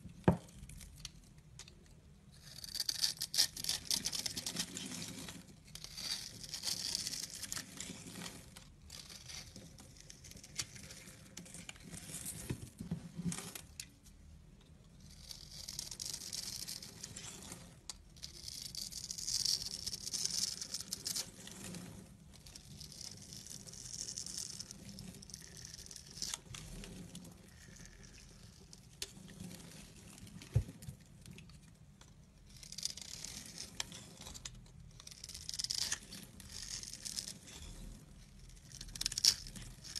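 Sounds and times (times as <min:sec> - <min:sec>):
blade scraping dry soap: 0:02.4 - 0:12.4, 0:15.0 - 0:31.4, 0:32.5 - 0:39.9.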